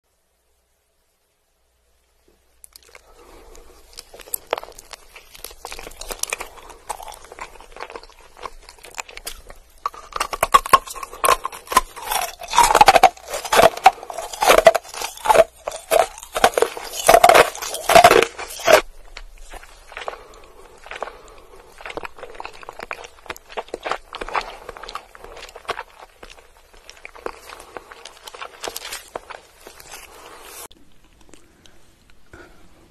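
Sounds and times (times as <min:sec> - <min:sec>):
crunching rock candy: 0:02.6 - 0:31.5
chewing gumball: 0:02.7 - 0:30.2.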